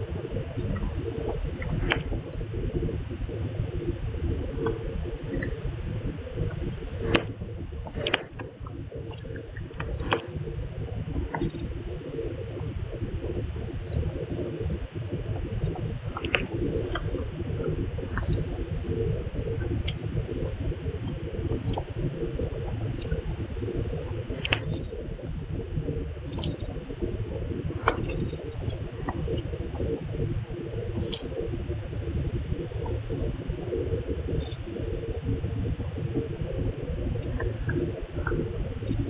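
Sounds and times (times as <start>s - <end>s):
low background rumble and hiss: 0.0s - 39.0s
faint clicks: 0.4s - 2.9s, 3.8s - 10.4s, 11.1s - 39.0s.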